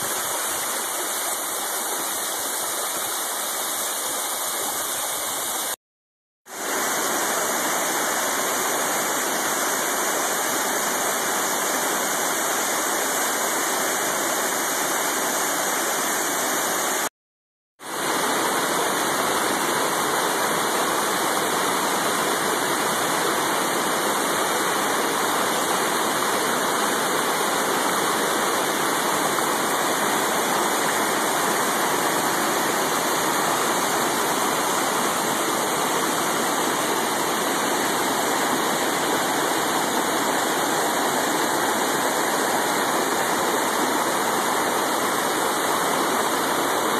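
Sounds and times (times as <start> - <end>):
waterfall roaring: 6.6 - 17.1, 17.9 - 46.9.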